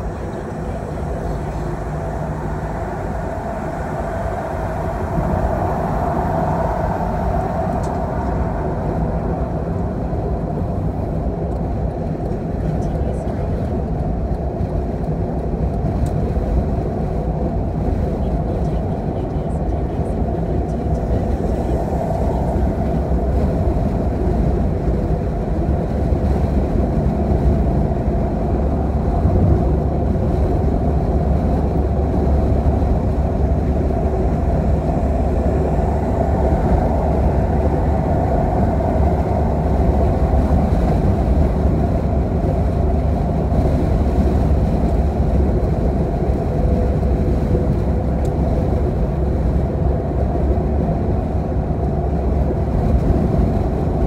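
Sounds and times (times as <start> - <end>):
car road noise rumble: 0.0 - 54.0.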